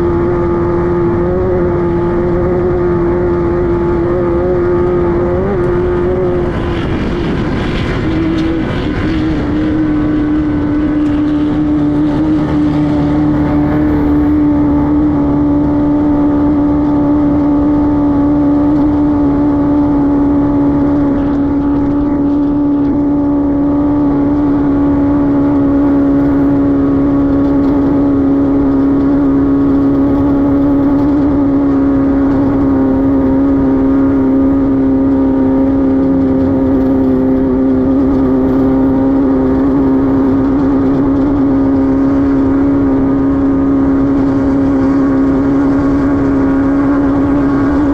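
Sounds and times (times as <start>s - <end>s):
race car engine running: 0.0s - 47.9s.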